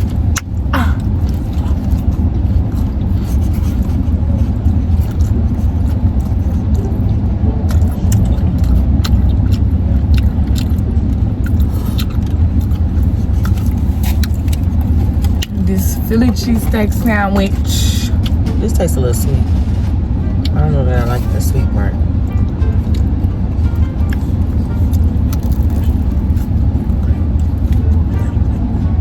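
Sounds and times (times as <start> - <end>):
car interior rumble: 0.0 - 29.0.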